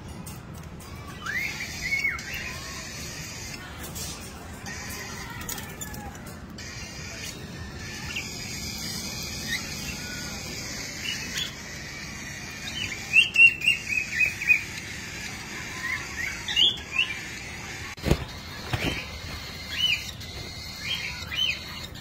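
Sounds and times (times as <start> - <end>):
cockatiels chirping: 0.9 - 22.0.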